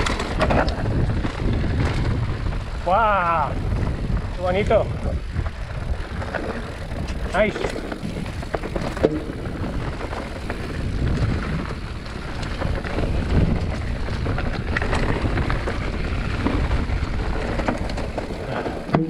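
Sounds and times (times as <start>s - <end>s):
bike rattling: 0.0s - 19.0s
bike tyres rolling on dirt: 0.0s - 19.0s
wind rushing over microphone: 0.0s - 19.0s.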